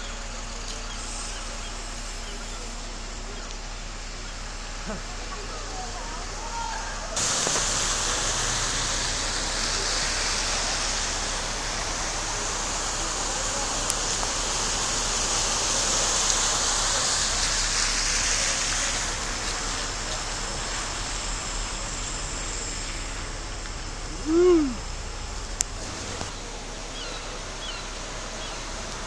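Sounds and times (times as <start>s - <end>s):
cars ploughing through floodwater: 0.0s - 29.0s.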